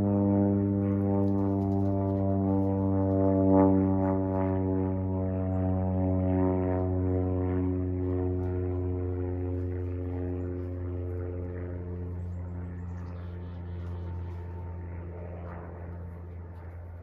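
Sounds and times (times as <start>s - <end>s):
propeller airplane droning: 0.0s - 17.0s.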